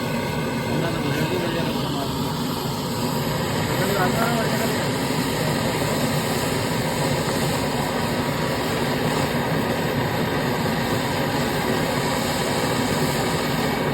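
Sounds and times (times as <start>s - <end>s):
torch flame hissing: 0.0s - 13.9s.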